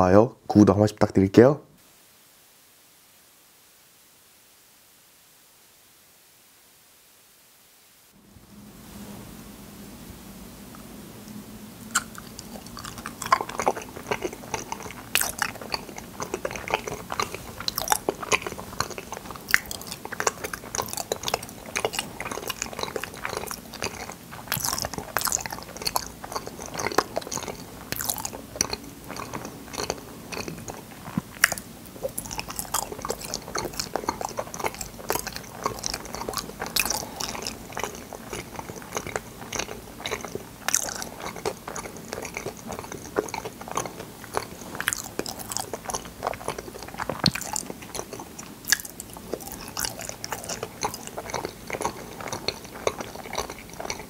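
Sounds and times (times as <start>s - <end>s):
close-miked chewing clicks and crackles: 10.7s - 54.0s.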